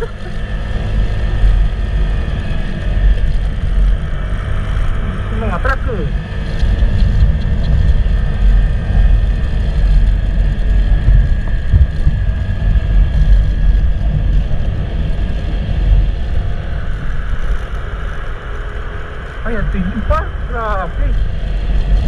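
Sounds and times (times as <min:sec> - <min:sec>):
faint steady whine: 0:00.0 - 0:22.0
motorcycle engine: 0:00.0 - 0:22.0
wind rumble on microphone: 0:00.0 - 0:22.0.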